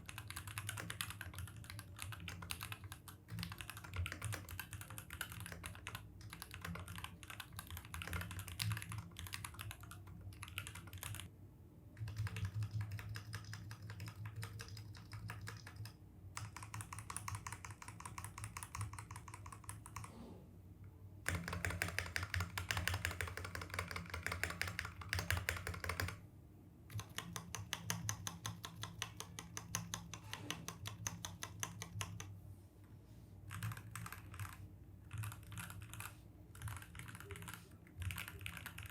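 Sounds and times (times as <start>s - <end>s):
mechanical keyboard typing: 0.0s - 11.3s, 12.0s - 20.1s, 21.2s - 26.2s, 26.9s - 32.3s, 33.5s - 38.9s.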